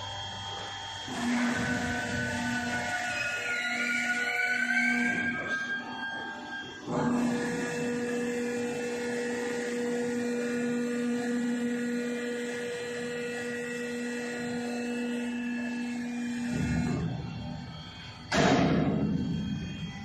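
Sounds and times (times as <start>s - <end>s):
machine motor humming: 0.0s - 20.0s.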